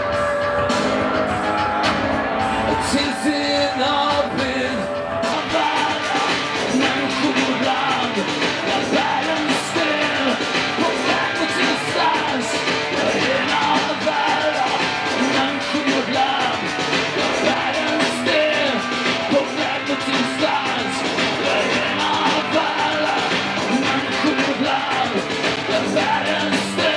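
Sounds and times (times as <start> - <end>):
rock band playing: 0.0 - 26.9
man singing: 2.6 - 26.9.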